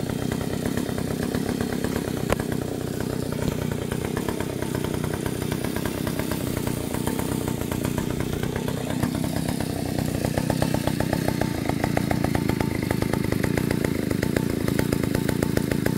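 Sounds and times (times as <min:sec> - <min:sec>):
chainsaw engine idling: 0:00.0 - 0:15.9.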